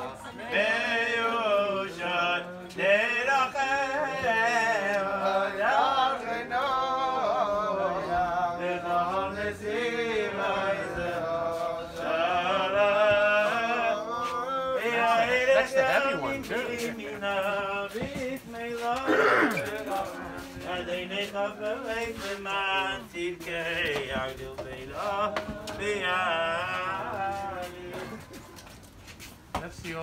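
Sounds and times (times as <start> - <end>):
men chanting: 0.0 - 28.7.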